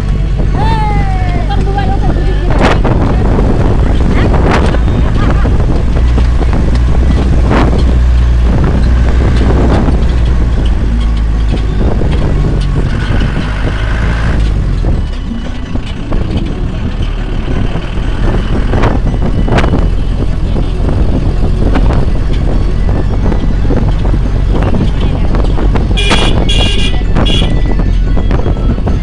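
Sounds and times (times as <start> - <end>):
road noise: 0.0 - 29.0
vehicle engine running: 0.0 - 29.0.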